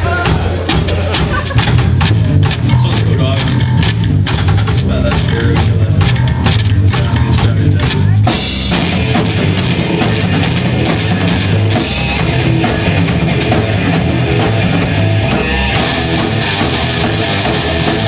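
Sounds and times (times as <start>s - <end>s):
heavy rock band playing live: 0.0s - 18.0s.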